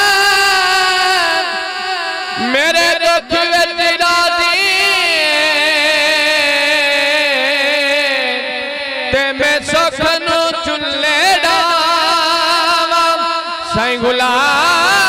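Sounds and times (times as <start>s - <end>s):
man singing devotional song: 0.0s - 15.0s.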